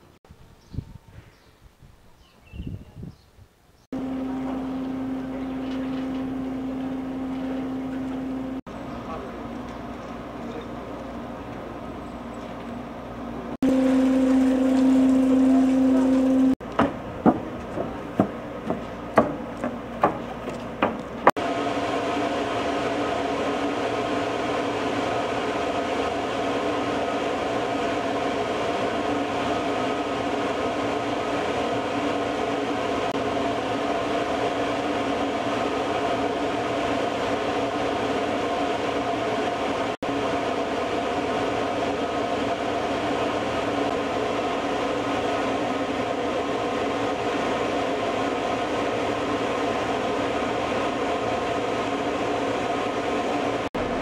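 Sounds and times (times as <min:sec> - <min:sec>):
ferry engine drone: 0:04.0 - 0:19.2, 0:21.1 - 0:54.0.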